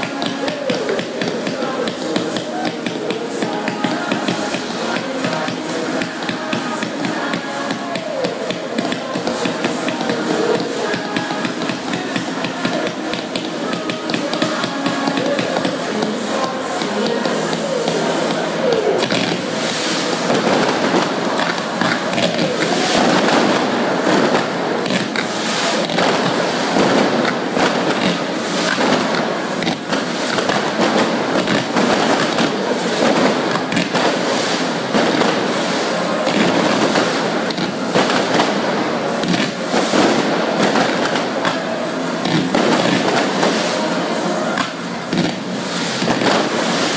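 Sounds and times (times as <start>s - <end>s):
fireworks hissing and crackling: 0.0s - 46.9s
rapid firework pops: 0.0s - 46.9s.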